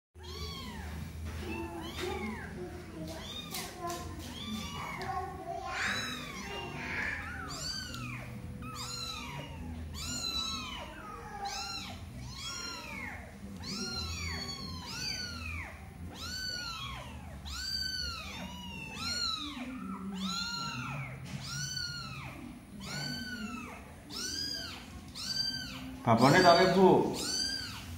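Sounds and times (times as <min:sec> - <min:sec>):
kittens mewing: 0:00.2 - 0:27.9.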